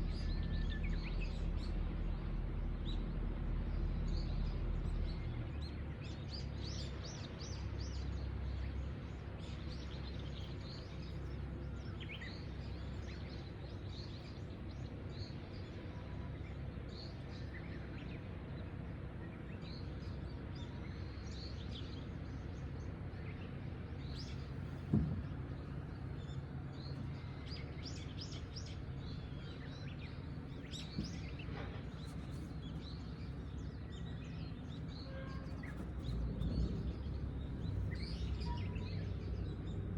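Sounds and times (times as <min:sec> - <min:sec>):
low background rumble: 0:00.0 - 0:39.9
wild birds chirping: 0:03.7 - 0:39.9.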